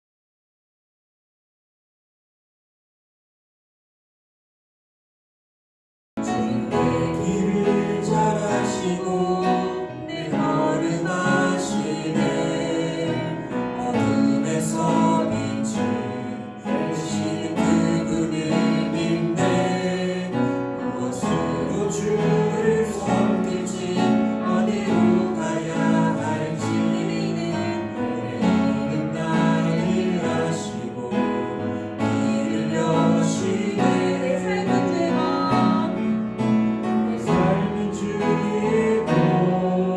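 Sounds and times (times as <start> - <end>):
gospel singing over keyboard: 6.2 - 39.9.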